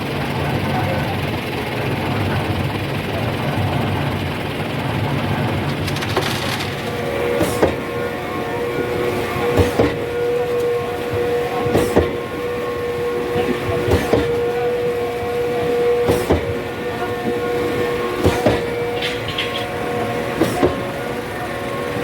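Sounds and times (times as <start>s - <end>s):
engine and hydraulic hum: 0.0s - 22.0s.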